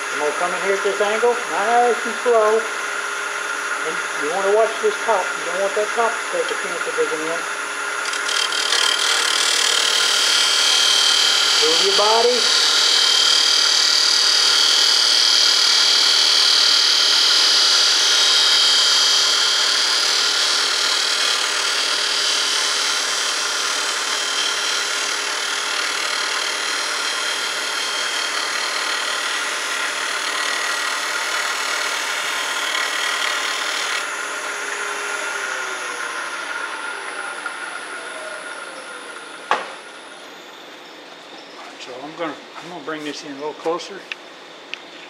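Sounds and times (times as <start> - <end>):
lathe cutting hiss: 0.0 - 37.8
lathe slowing whine: 0.0 - 45.0.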